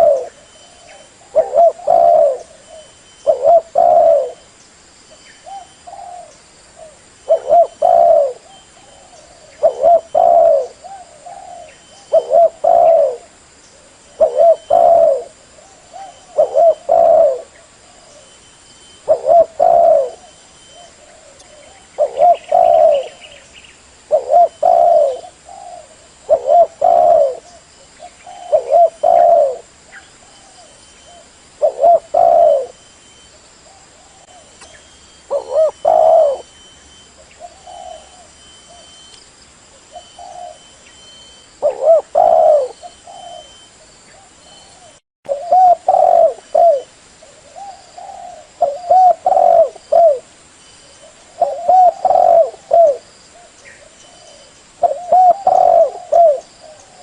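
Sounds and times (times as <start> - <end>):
dove cooing: 0.0 - 4.5, 5.4 - 18.4, 19.0 - 32.9, 33.6 - 39.1, 39.8 - 50.3, 50.9 - 57.0.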